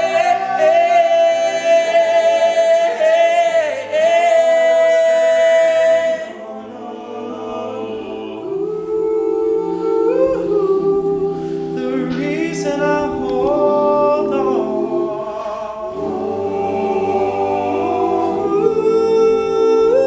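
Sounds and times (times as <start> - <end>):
male vocal group chords: 0.0 - 20.0.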